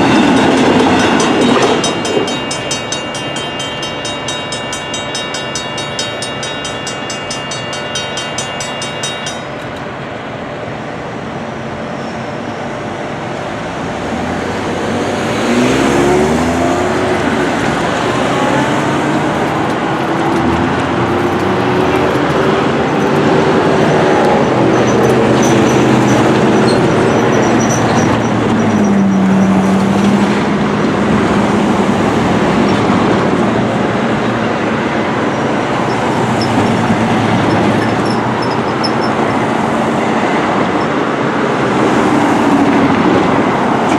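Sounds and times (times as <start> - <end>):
freight train rolling past: 0.0 - 43.9
railroad crossing bells ringing: 0.0 - 43.9
train whining tones: 0.0 - 43.9.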